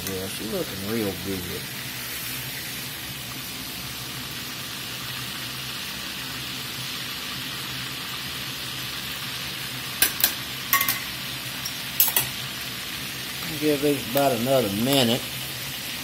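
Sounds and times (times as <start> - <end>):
steaks sizzling in hot oil: 0.0 - 16.0.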